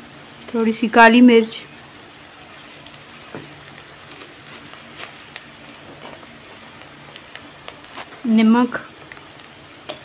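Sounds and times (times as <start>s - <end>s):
oil sizzling in a pan: 0.0s - 10.0s
small crackles and pops: 0.3s - 10.0s.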